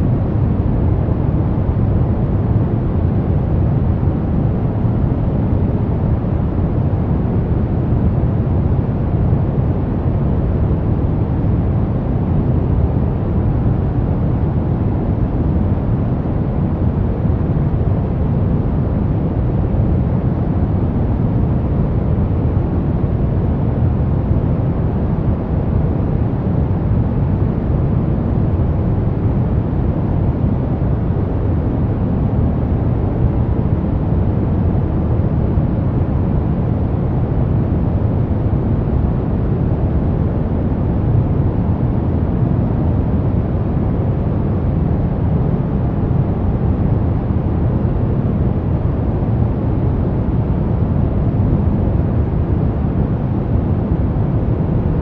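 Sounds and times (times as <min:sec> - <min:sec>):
brown noise: 0:00.0 - 0:55.0.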